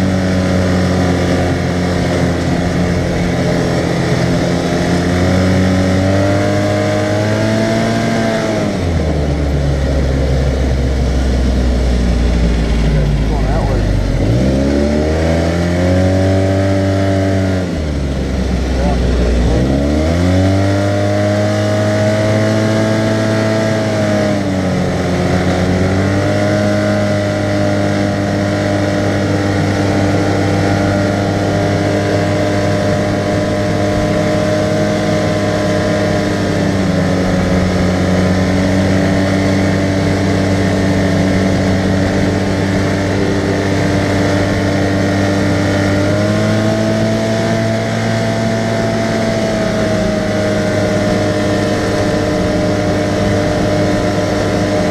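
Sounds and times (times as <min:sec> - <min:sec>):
utility vehicle engine running: 0:00.0 - 0:54.9.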